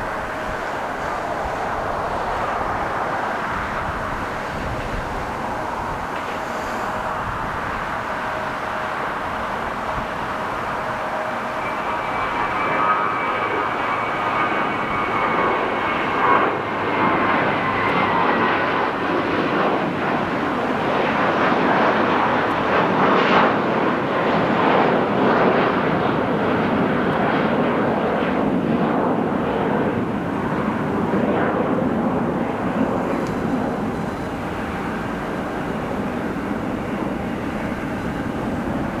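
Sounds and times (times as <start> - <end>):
jet engines at takeoff: 0.0 - 39.0.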